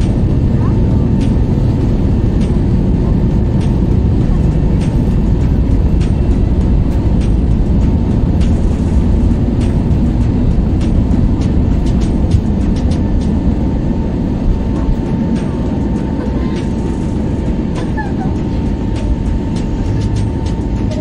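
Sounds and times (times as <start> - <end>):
airliner engine and rolling rumble: 0.0 - 21.0
thin steady whine: 0.0 - 21.0.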